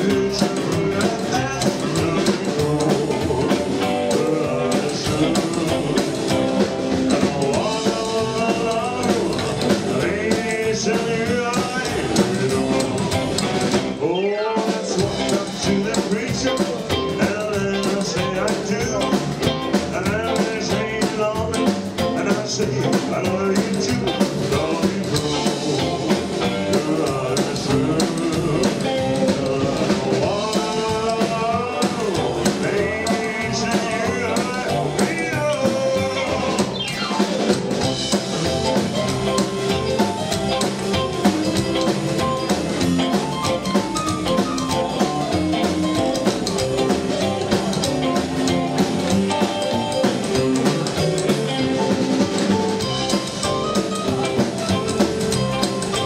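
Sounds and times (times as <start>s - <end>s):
drum kit beat: 0.0s - 56.0s
electric guitar: 0.0s - 56.0s.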